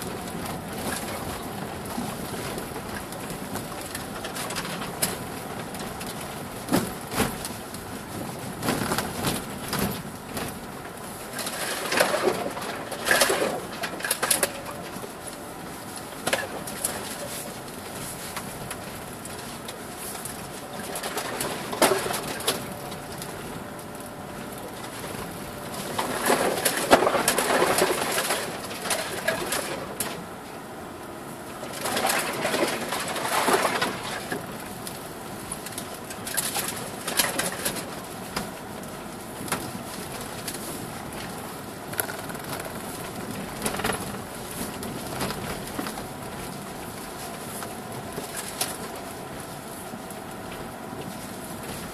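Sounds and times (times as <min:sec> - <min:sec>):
car tyres rumbling on dirt track: 0:00.0 - 0:51.9.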